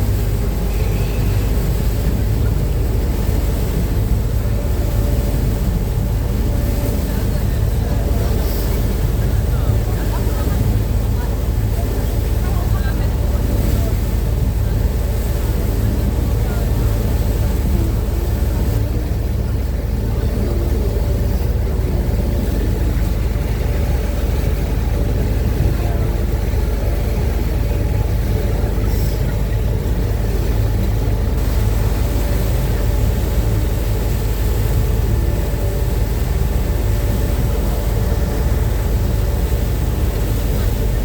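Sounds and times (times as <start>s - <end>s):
air noise: 0.0s - 41.0s
deep boat engine rumble: 0.0s - 41.0s
rushing water: 0.0s - 41.0s.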